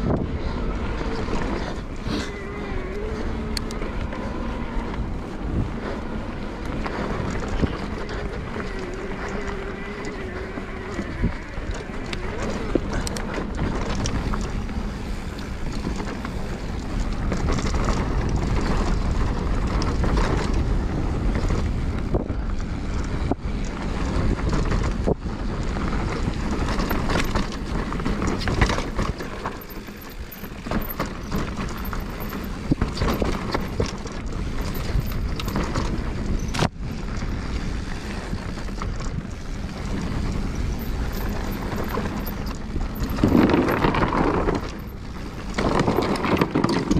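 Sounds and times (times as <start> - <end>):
wind buffeting microphone: 0.0 - 46.9
bike knocks and rattles: 3.7 - 46.9.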